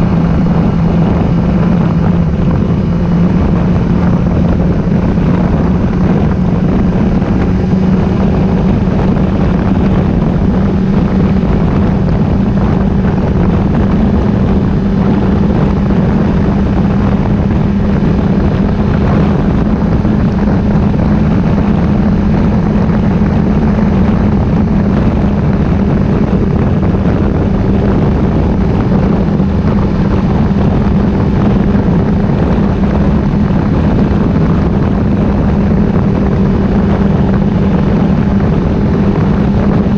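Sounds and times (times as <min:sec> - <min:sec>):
motorcycle engine running steadily: 0:00.0 - 0:39.9
rush of wind noise: 0:00.0 - 0:39.9.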